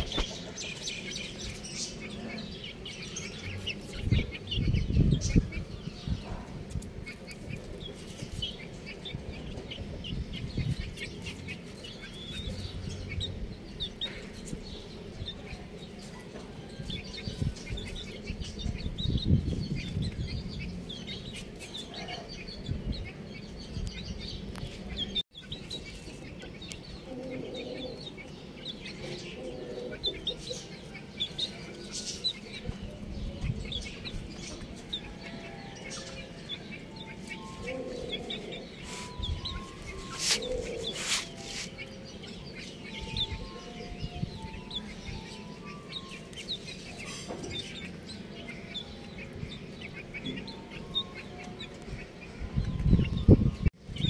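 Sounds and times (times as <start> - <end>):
chickens clucking: 0.0 - 23.3, 23.9 - 53.6
baby chicks peeping: 0.0 - 54.0.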